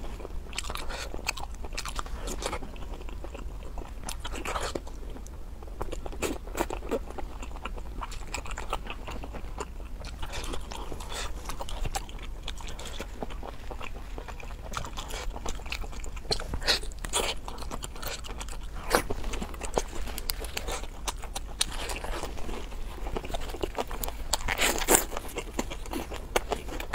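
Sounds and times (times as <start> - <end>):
crunchy chewing: 0.0 - 26.9.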